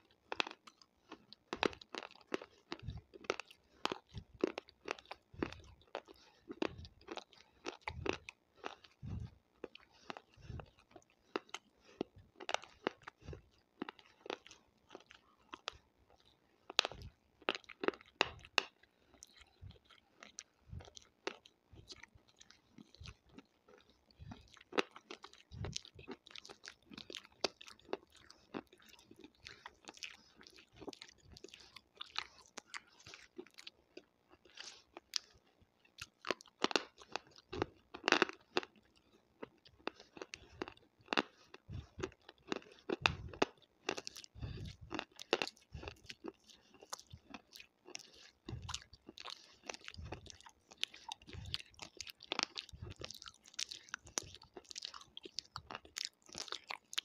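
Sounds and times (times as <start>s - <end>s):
wet mouth clicks and smacks: 0.2s - 33.7s, 36.0s - 57.0s.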